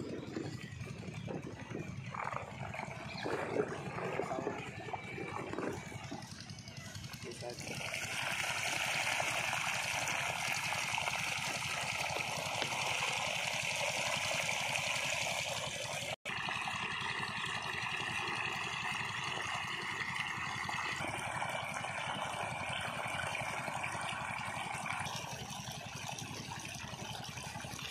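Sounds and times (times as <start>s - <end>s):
water gushing from pipe: 0.0s - 27.9s.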